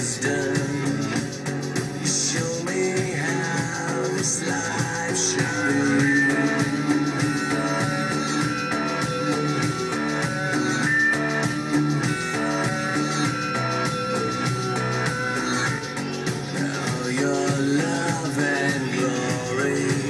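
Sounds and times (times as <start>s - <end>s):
rock song on car stereo: 0.0s - 20.0s.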